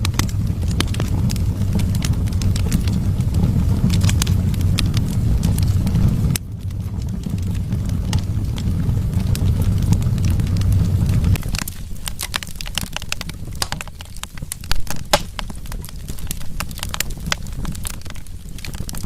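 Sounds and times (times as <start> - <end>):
burning wood crackling: 0.0 - 19.0
fire flames rumbling: 0.0 - 19.0.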